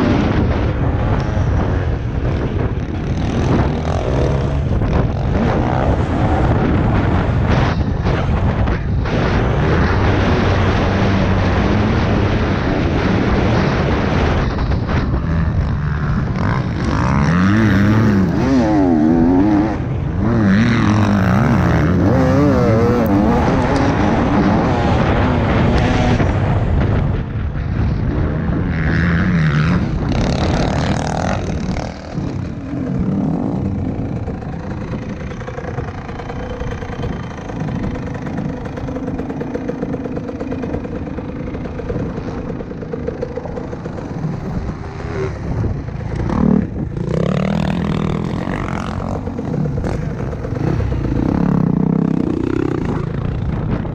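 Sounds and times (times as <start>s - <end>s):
dirt bike engine revving: 0.0s - 53.9s
wind noise on microphone: 0.0s - 53.9s.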